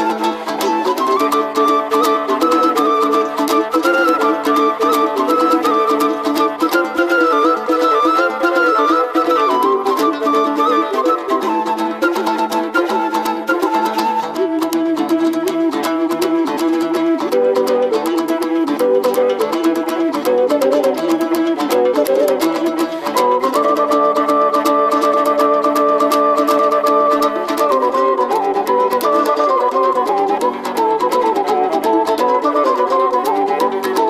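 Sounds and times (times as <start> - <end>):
bowed strings: 0.0 - 34.0
fast picked string instrument: 0.0 - 34.0.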